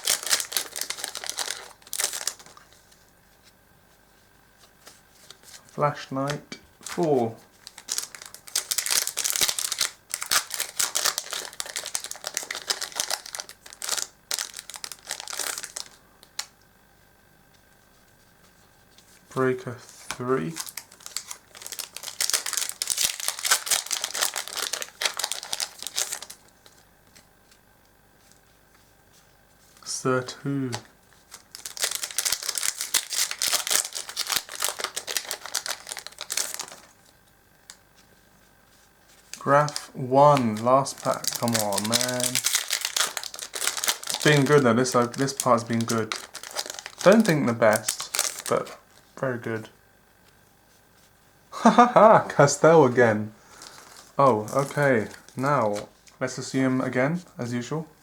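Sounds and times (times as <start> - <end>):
foil wrapper crinkling: 0.0 - 3.0, 4.6 - 16.5, 19.0 - 27.6, 29.6 - 38.1, 38.7 - 49.4, 51.6 - 56.4.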